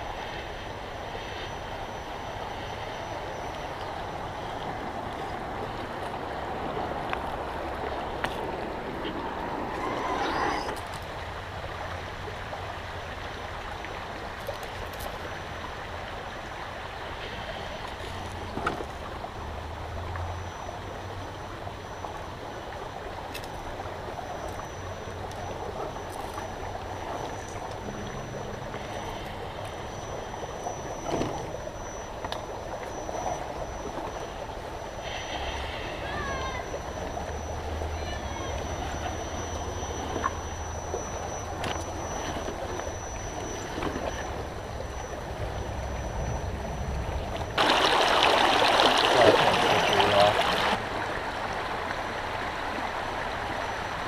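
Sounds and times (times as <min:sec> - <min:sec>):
shallow river running: 0:00.0 - 0:54.0
toy truck wading splashes: 0:08.9 - 0:54.0.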